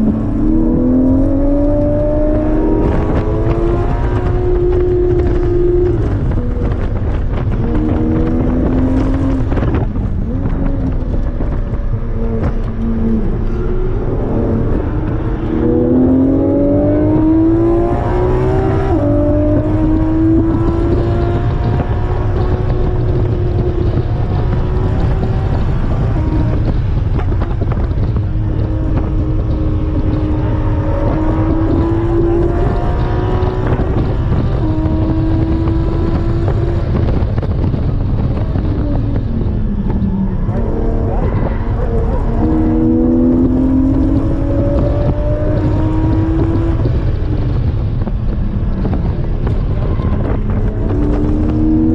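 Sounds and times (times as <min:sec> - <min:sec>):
car engine revving under acceleration: 0:00.0 - 0:51.9
road and tyre noise: 0:00.0 - 0:51.9.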